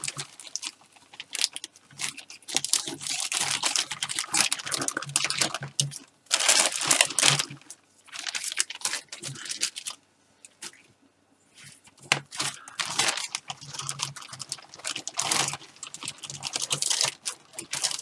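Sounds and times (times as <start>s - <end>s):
plastic bag crinkling: 0.0s - 10.9s, 11.6s - 18.0s.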